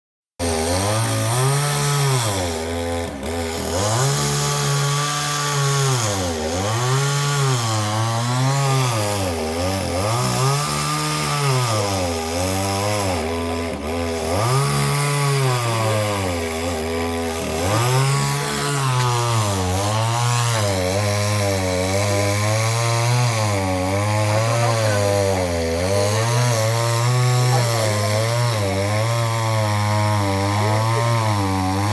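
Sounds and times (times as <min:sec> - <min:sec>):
chainsaw cutting a tree: 0:00.4 - 0:31.9.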